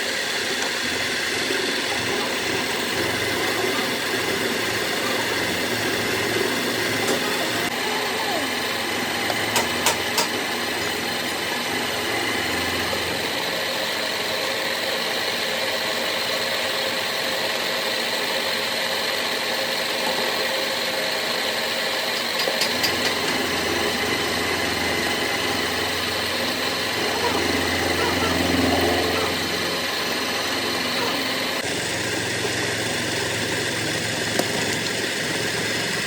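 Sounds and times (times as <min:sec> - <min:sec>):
machine running: 0:00.0 - 0:36.0.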